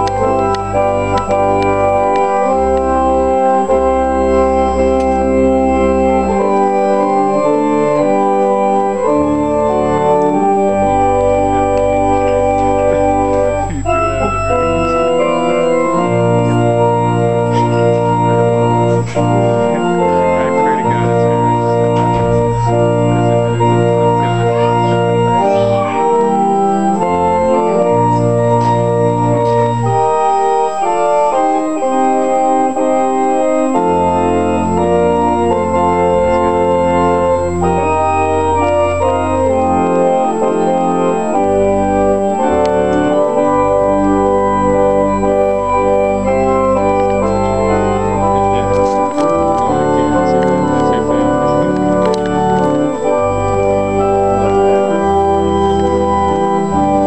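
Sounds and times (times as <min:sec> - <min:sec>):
organ playing slow chords: 0:00.0 - 0:57.0.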